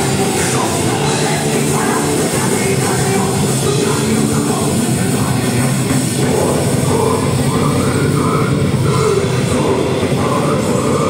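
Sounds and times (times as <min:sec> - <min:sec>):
punk rock band playing: 0:00.0 - 0:11.0.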